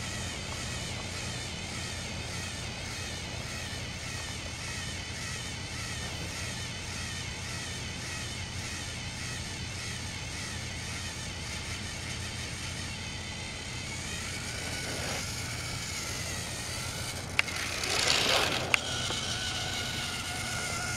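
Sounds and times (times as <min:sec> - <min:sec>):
toy train engines whirring: 0:00.0 - 0:20.9.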